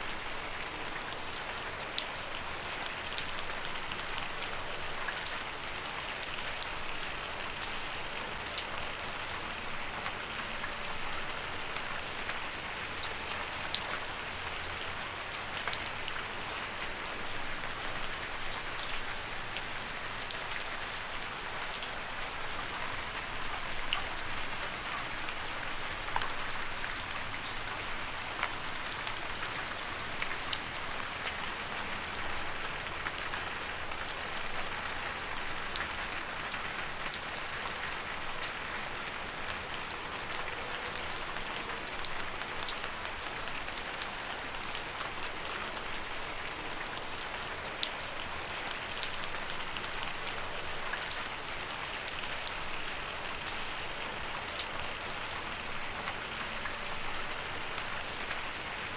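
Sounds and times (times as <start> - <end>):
raindrops ticking on a surface: 0.0 - 58.9.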